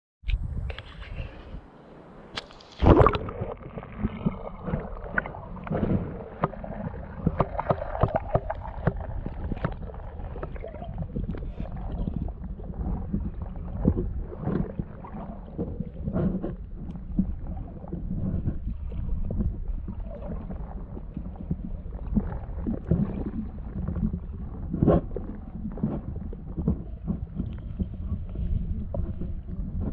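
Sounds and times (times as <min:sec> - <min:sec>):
muffled underwater rumbling: 0:00.3 - 0:29.9
water sloshing: 0:00.8 - 0:29.9.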